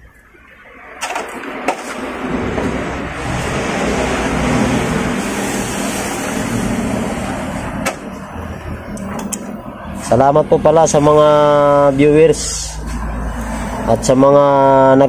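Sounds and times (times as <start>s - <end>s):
vehicle passing by: 0.7s - 15.0s.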